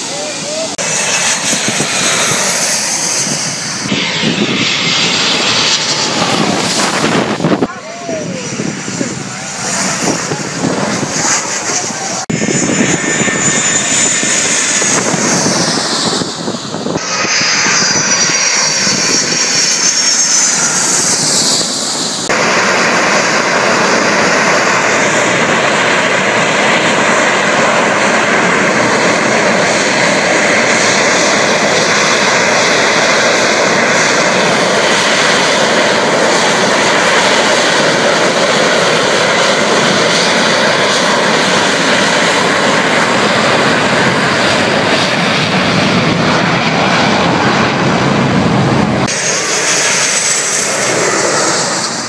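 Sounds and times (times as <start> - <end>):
jet airliner passing overhead: 0.0 - 52.0
jet engines roaring: 0.0 - 52.0.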